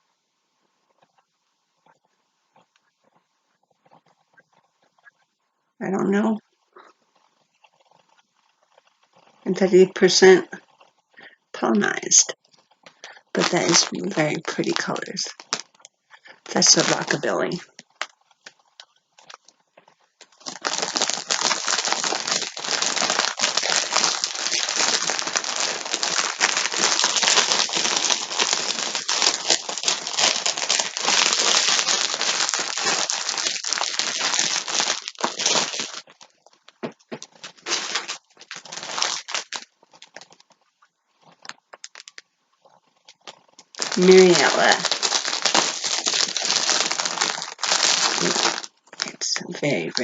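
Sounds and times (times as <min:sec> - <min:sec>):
plastic packaging crinkling: 0:07.6 - 0:50.0.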